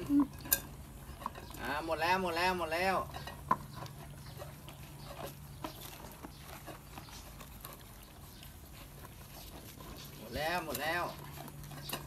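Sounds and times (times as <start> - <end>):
puppies licking bowls: 0.0 - 12.0.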